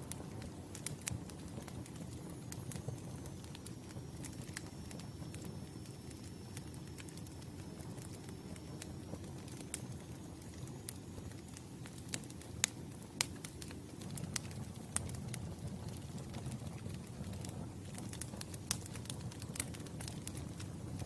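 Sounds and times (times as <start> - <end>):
campfire low rush: 0.0 - 21.0
fire crackles and pops: 0.0 - 21.0.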